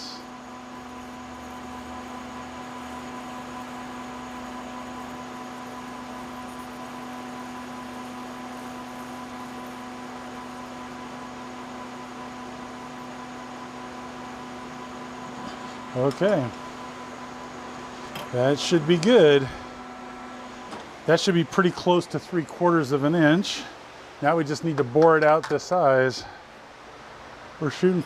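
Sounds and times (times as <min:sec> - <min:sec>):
metal lathe drilling hum: 0:00.0 - 0:24.2.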